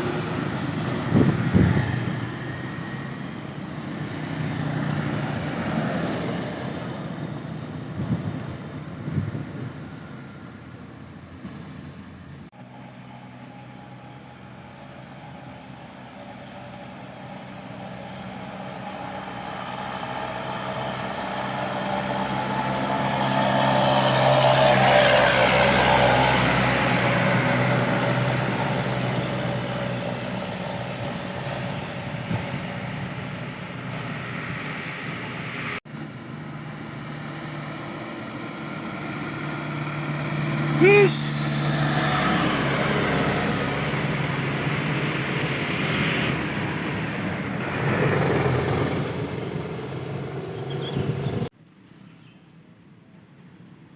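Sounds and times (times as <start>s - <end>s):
truck diesel engine: 0.0s - 51.5s
vehicle engine: 0.0s - 51.6s.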